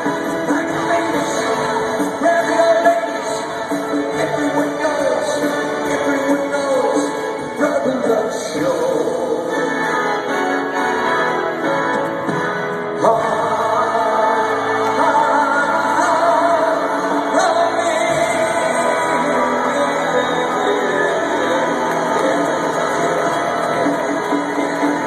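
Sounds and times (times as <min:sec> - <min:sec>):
live band music with singing: 0:00.0 - 0:25.0.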